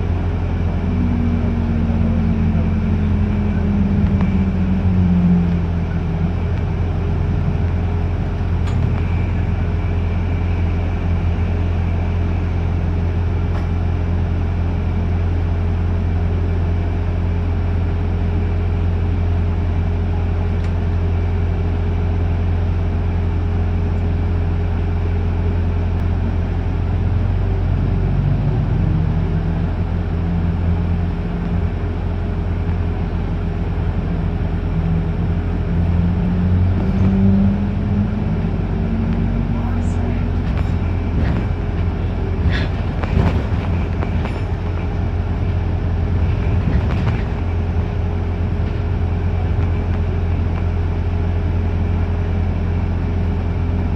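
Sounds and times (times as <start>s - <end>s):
bus engine hum: 0.0s - 53.9s
road noise: 0.0s - 53.9s.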